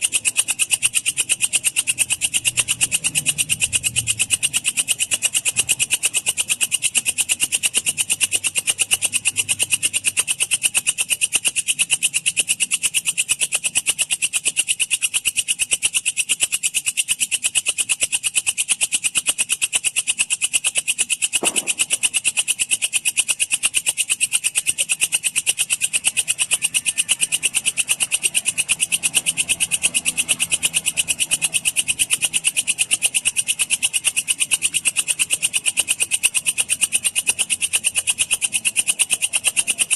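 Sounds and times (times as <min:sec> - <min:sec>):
bush cricket chirring: 0:00.0 - 0:39.9.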